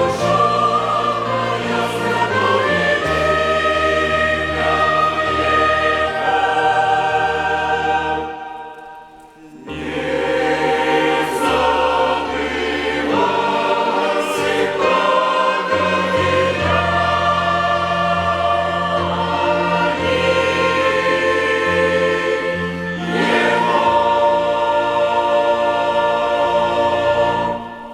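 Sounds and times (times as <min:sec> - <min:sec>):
choir singing a hymn: 0:00.0 - 0:27.9
violin orchestra: 0:00.0 - 0:27.9.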